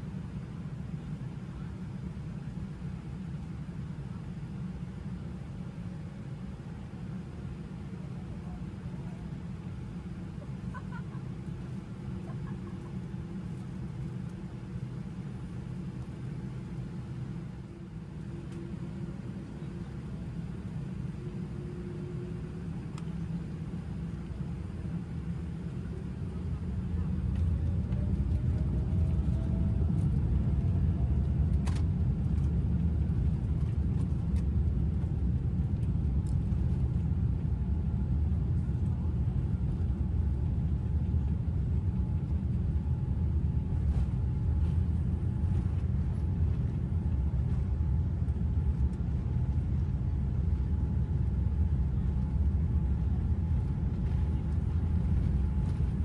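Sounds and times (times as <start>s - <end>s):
airliner taxiing rumble: 0.0s - 56.0s
faint steady whine: 0.0s - 56.0s.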